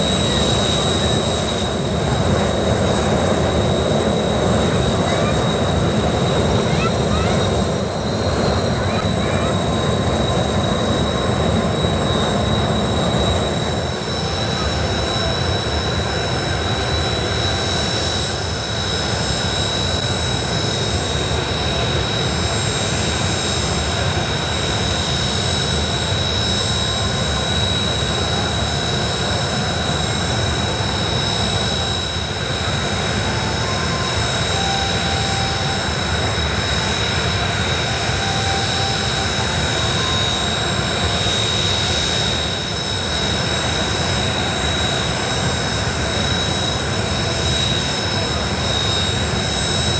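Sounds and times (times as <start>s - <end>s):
jet engines idling: 0.0s - 49.9s.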